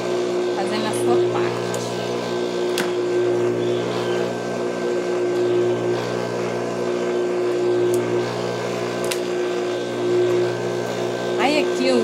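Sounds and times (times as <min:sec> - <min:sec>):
sewing machine motor humming: 0:00.0 - 0:12.0.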